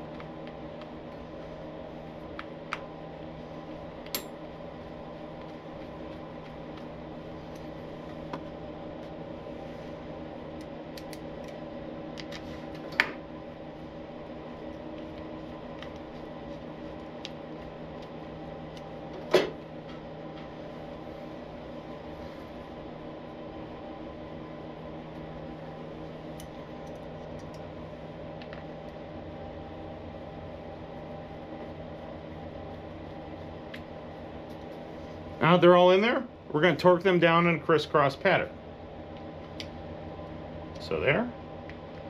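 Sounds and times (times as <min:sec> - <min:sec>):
steady mechanical hum: 0:00.0 - 0:42.0.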